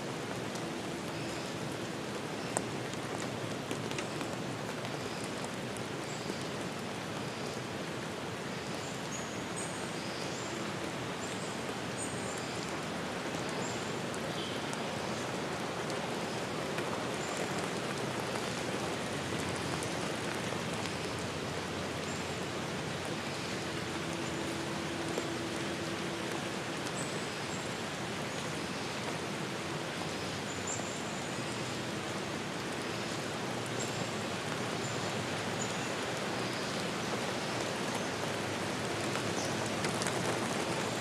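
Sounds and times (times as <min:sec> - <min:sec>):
falling water hiss: 0:00.0 - 0:41.0.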